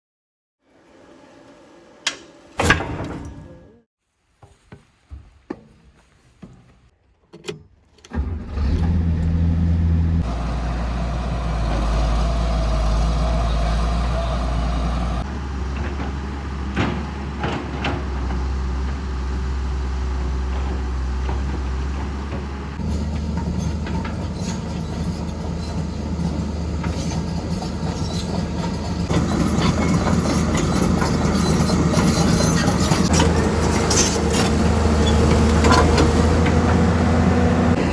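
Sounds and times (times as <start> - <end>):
engine starting and running: 7.4 - 37.9.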